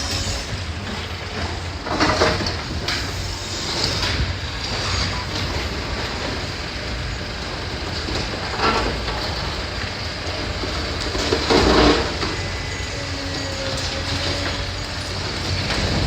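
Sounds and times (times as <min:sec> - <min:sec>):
excavator running: 0:00.0 - 0:16.0.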